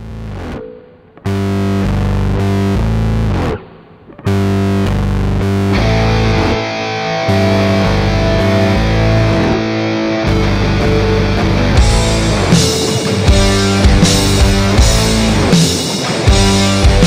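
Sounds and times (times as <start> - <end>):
distorted electric guitar chords: 0.0 - 17.0
heavy rock music: 0.0 - 17.0.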